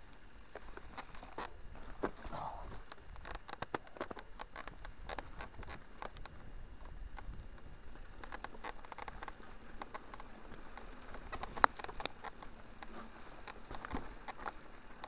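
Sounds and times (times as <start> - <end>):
mountain bike rattling: 0.0 - 15.0
small clicks and knocks: 0.5 - 15.0.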